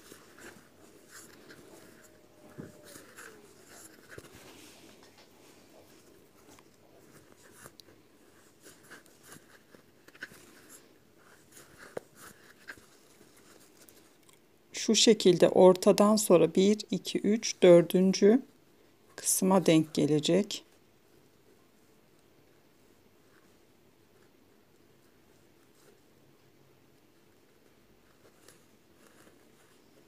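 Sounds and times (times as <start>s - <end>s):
crochet hook and yarn rustling: 0.0s - 30.0s.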